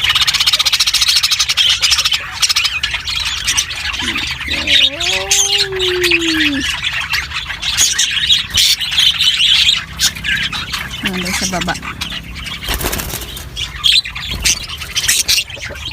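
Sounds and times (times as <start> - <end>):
birds chattering and squawking: 0.0 - 15.9.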